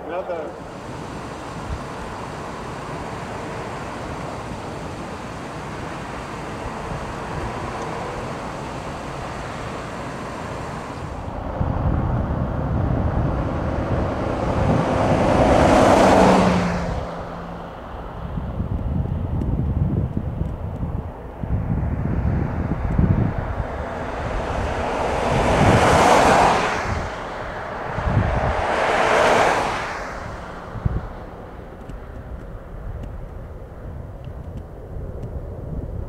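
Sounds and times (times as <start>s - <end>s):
jet engine roar: 0.0s - 19.4s, 20.2s - 36.0s.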